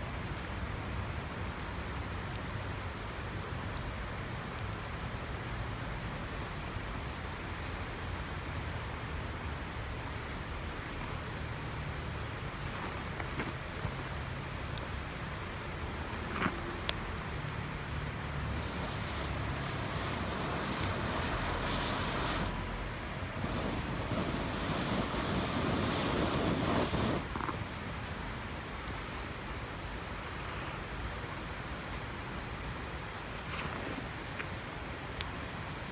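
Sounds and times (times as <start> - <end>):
campfire popping and crackling: 0.0 - 35.9.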